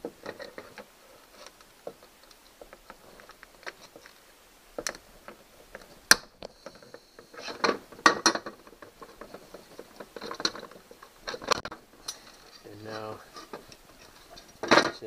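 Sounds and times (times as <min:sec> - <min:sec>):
pliers and cable rattling: 0:00.0 - 0:04.2, 0:04.8 - 0:15.0.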